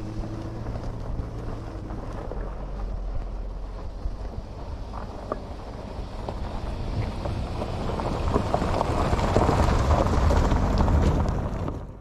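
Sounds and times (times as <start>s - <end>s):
low engine rumble: 0.0s - 12.0s
tyres crunching on gravel: 0.0s - 12.0s.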